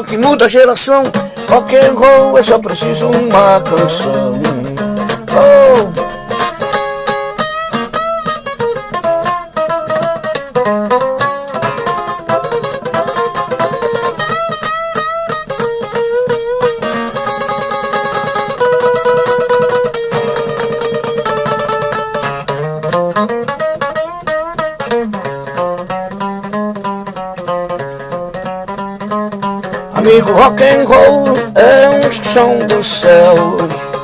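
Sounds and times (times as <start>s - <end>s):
rock and roll lead guitar: 0.0s - 34.0s.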